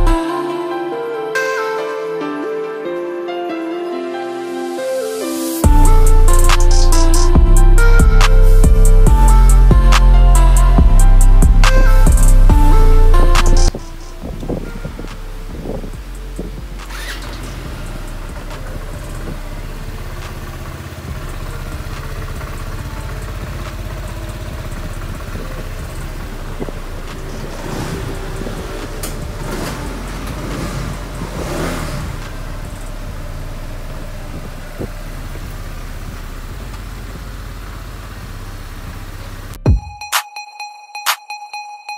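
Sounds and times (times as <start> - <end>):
scooter engine idling and revving: 0.0 - 0.4, 5.5 - 39.8.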